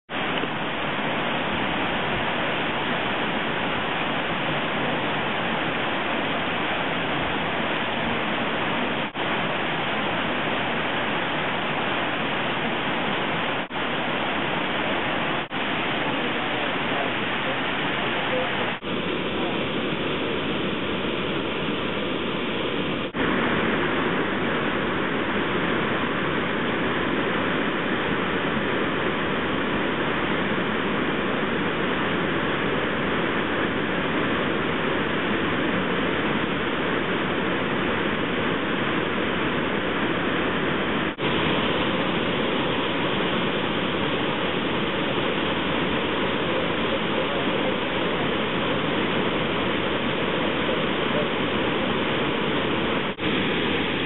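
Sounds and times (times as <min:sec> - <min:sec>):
waterfall roaring: 0:00.1 - 0:54.0.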